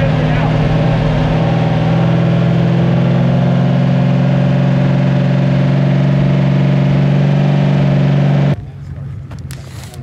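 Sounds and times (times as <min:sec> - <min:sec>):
truck engine running loudly: 0:00.0 - 0:08.6.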